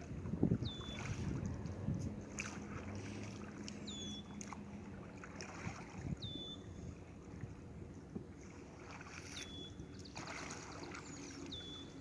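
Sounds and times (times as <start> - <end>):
wind on microphone: 0.0 - 3.5, 5.4 - 12.0
oar splashing water: 0.0 - 12.0.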